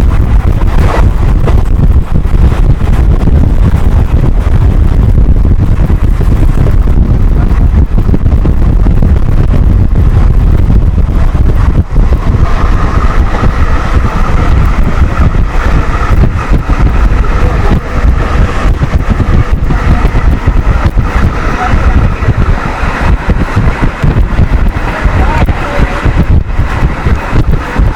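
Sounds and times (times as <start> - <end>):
passenger train rumbling: 0.0 - 27.9
wind buffeting microphone: 0.0 - 27.9.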